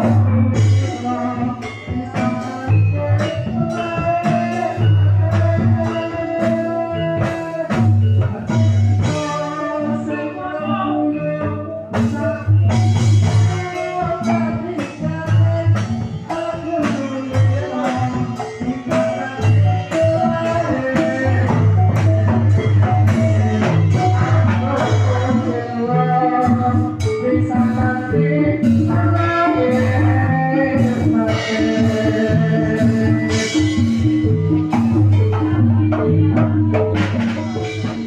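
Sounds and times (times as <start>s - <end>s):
drums steady beat: 0.0s - 38.0s
melodic instruments: 0.0s - 38.0s
person singing: 0.0s - 38.0s.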